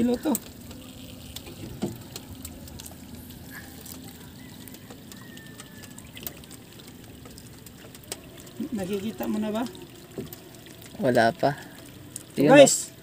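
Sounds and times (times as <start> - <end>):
light rain on sea water: 0.0 - 13.0.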